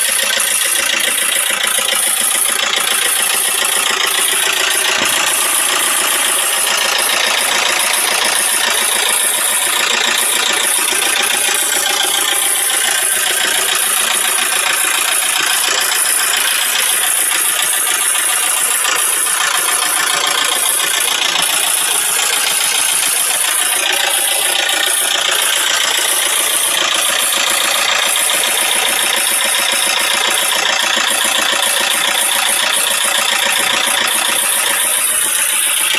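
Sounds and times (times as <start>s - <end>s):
diesel engine clattering: 0.0s - 35.9s.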